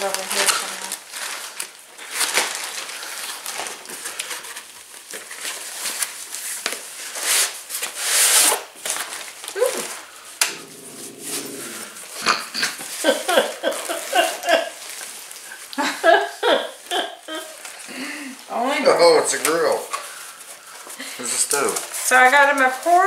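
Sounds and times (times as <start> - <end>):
cardboard and plastic rustling: 0.0 - 15.7, 17.3 - 23.0.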